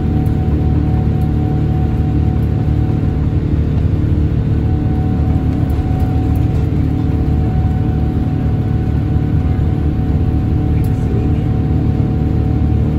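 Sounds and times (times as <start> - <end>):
deep roar of jet engine: 0.0 - 12.9
faint steady whine: 0.0 - 12.9.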